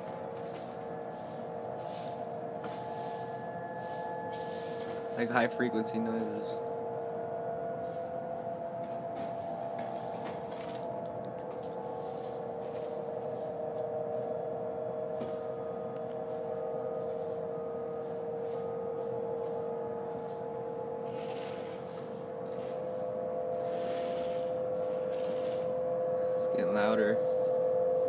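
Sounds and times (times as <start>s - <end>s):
steady drone in the sky: 0.0s - 28.0s.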